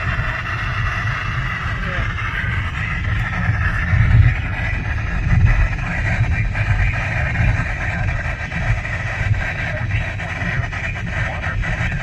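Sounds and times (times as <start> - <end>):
car driving rumble: 0.0 - 12.0
radio static hissing: 0.0 - 12.0.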